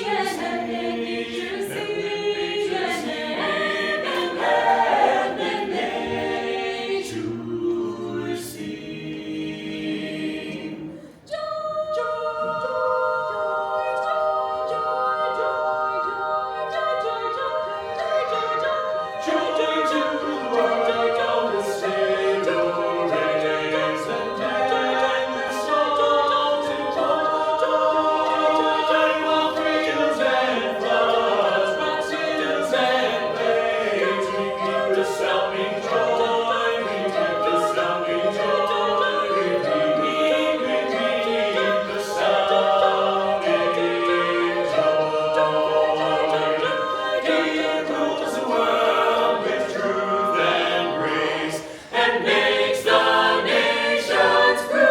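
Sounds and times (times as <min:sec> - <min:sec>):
a cappella group singing: 0:00.0 - 0:54.9.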